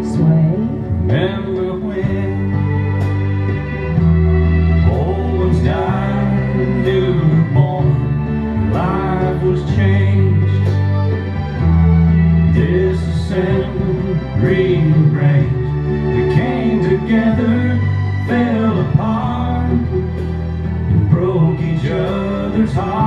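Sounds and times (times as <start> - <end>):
guitar: 0.0 - 23.0
person singing country song: 0.0 - 23.0
steady bass notes: 0.0 - 23.0.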